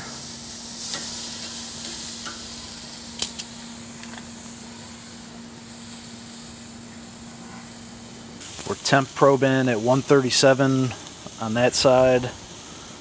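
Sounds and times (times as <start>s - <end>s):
meat sizzling with pops: 0.0s - 13.0s.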